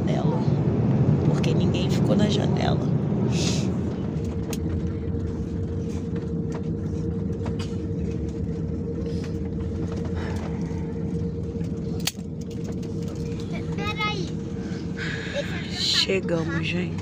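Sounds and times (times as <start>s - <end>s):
low roar of engines and airflow: 0.0s - 17.0s
steady hum: 0.0s - 17.0s.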